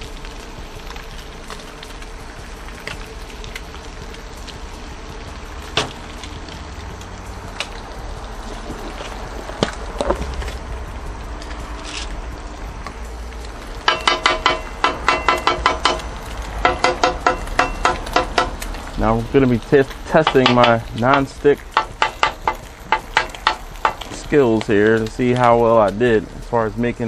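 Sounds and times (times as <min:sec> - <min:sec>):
eggs and bacon sizzling on griddle: 0:00.0 - 0:27.0
steady low rumble: 0:00.0 - 0:27.0.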